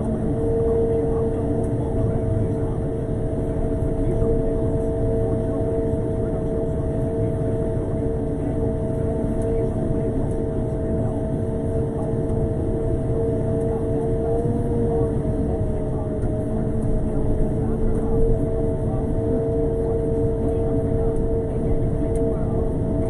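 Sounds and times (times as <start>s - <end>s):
two-tone machinery whine: 0.0s - 23.0s.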